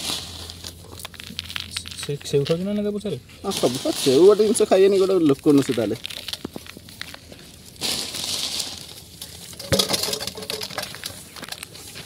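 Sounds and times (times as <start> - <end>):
puffed rice rustling and pattering: 0.0 - 12.0.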